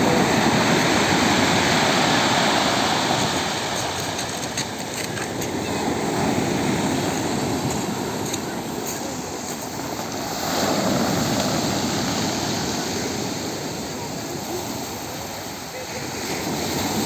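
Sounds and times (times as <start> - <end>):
waves breaking: 0.0 - 17.0.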